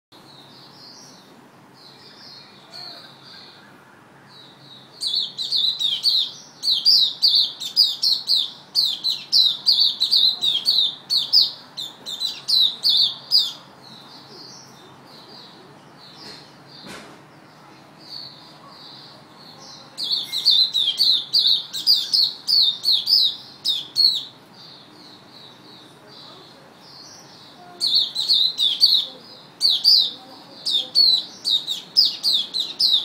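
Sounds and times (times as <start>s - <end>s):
songbird singing: 0.1s - 33.0s.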